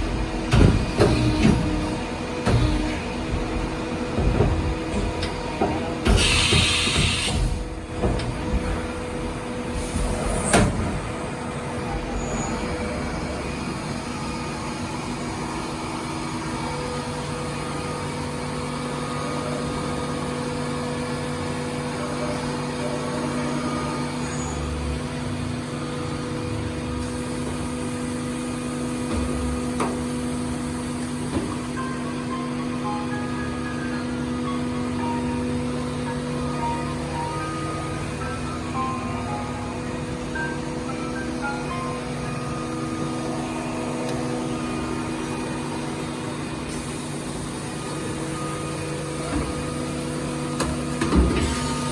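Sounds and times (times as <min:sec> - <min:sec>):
milling machine humming: 0:00.0 - 0:51.9.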